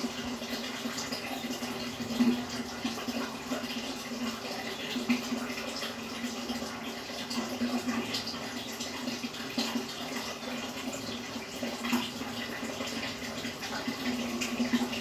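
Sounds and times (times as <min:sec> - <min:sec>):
aquarium water bubbling: 0:00.0 - 0:15.0.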